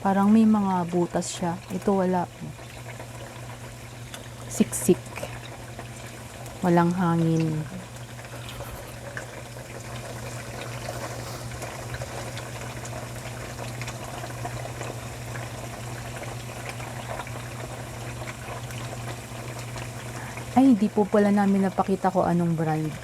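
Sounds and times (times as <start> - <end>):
constant low hum: 0.0 - 23.0
oil crackles and pops: 0.0 - 23.0
tofu sizzling in hot oil: 0.0 - 23.0.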